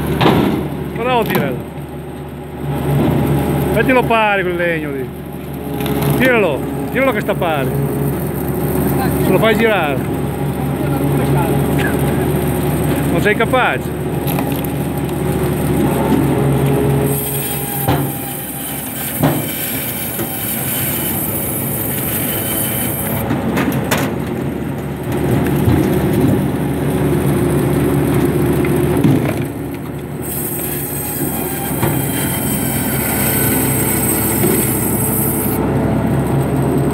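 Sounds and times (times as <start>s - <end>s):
engine drone: 0.0s - 36.9s.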